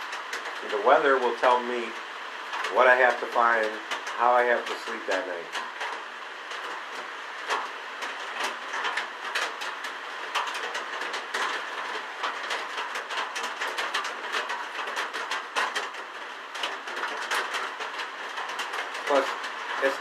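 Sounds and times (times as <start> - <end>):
heavy rain on shelter: 0.0 - 20.0.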